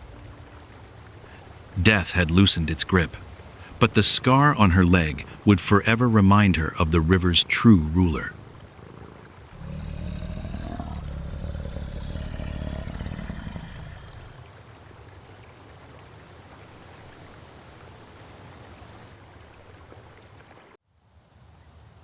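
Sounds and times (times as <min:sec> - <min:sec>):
river water rushing: 0:00.0 - 0:11.5, 0:14.1 - 0:20.4.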